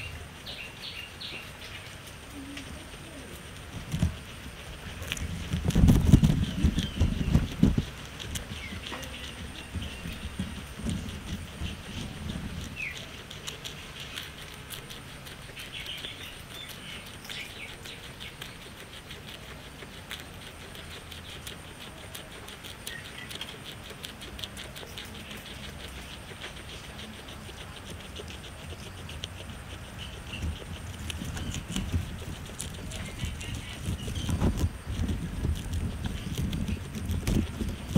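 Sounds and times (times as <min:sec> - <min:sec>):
guinea pig chewing grass: 0:00.0 - 0:37.9.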